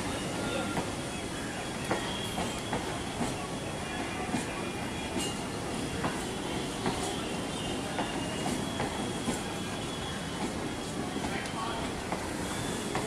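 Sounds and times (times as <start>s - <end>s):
faint high wheel squeal: 0.0s - 11.5s, 12.3s - 13.0s.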